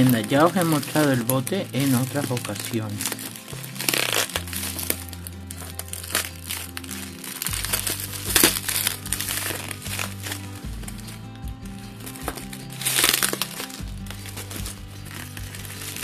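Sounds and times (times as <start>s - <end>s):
bubble wrap crinkling: 0.0s - 16.0s
music of held low notes: 0.0s - 16.0s.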